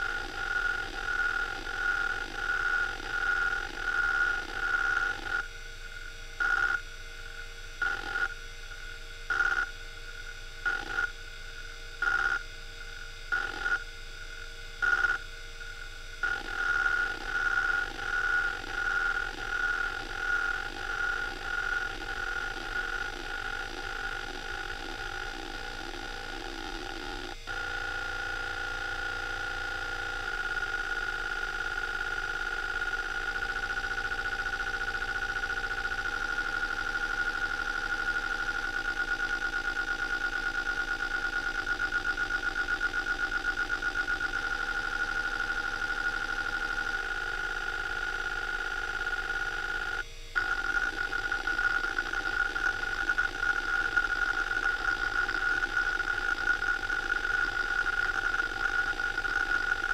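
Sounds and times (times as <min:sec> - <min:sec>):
hard drive seek chatter: 0:00.0 - 0:08.4, 0:09.3 - 0:59.9
hard drive spinning whine: 0:00.0 - 0:59.9.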